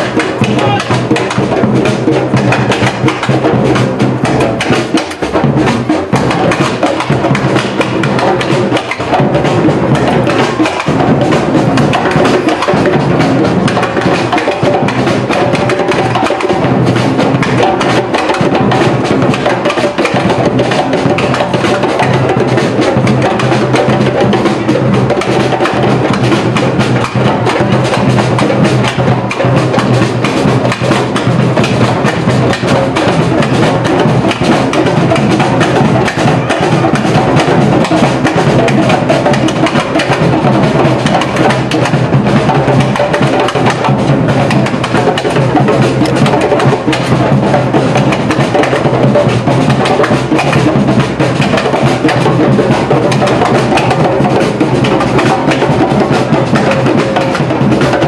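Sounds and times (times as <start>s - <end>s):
percussion band drumming: 0.0s - 58.0s.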